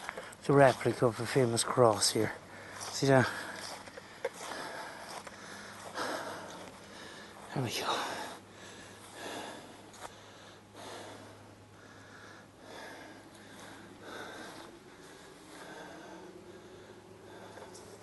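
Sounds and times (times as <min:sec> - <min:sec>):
low hum: 0:00.0 - 0:18.0
person breathing closely: 0:02.4 - 0:18.0.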